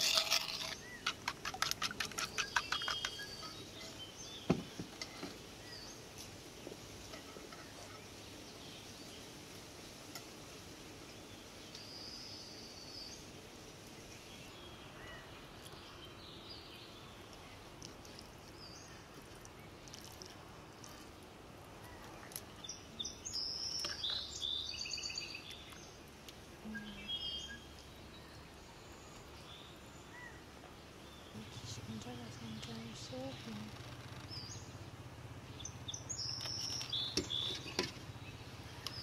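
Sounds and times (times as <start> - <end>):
outdoor background hiss: 0.0 - 39.0
small birds chirping: 0.0 - 39.0.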